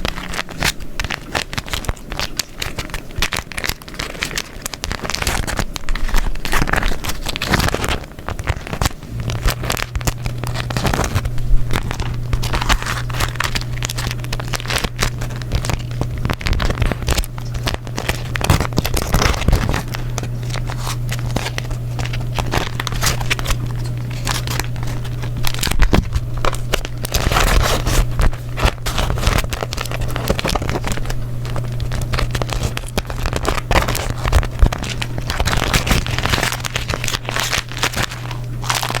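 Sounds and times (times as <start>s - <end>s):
steady low hum: 0.0s - 39.0s
wax paper crumpling: 0.0s - 39.0s.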